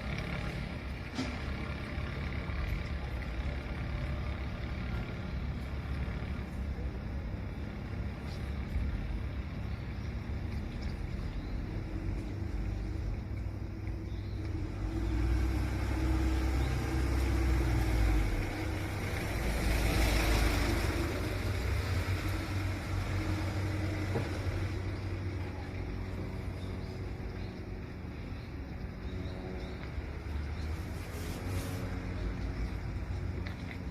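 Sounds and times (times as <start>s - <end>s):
vehicle engine passing by: 0.0s - 33.9s.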